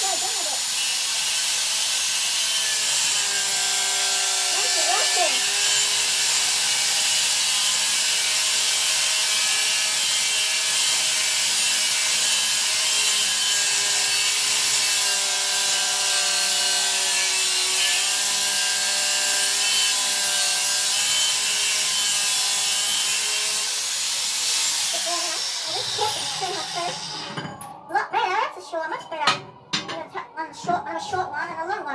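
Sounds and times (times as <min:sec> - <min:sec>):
power tool cutting steel: 0:00.0 - 0:27.9.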